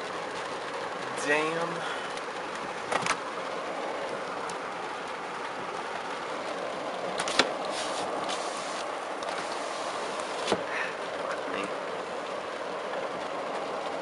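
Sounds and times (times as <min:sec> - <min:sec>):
heavy rain on car roof: 0:00.0 - 0:14.0.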